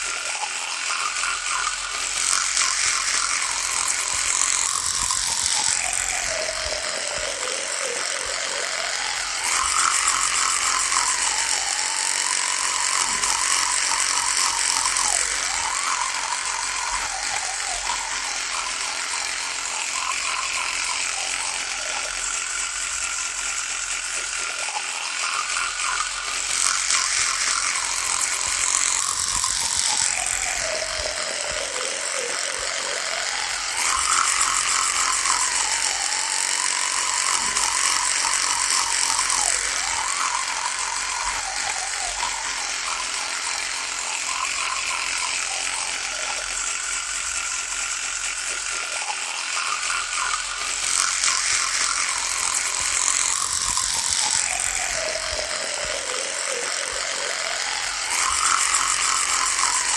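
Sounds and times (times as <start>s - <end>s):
electric toothbrush buzzing: 0.0s - 59.9s.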